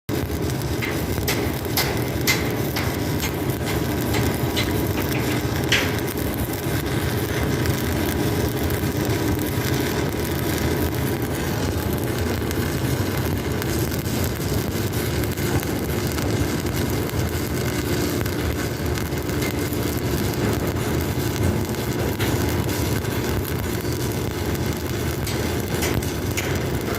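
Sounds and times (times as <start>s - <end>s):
welding arc crackling: 0.1s - 26.9s.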